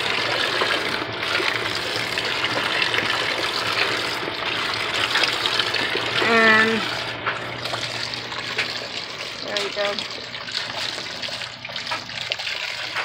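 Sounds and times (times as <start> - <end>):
water pouring into washing machine: 0.0 - 13.0.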